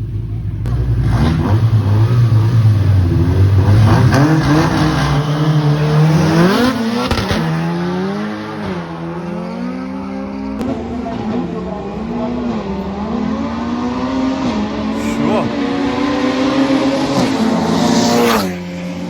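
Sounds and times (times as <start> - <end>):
cars accelerating hard: 0.6 - 19.0.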